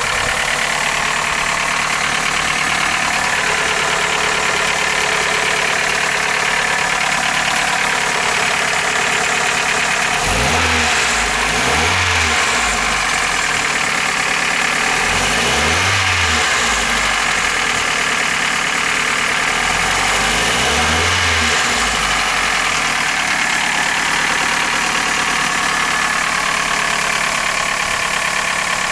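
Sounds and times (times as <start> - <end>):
car engine revving: 0.0 - 28.9
engine clatter: 0.0 - 28.9.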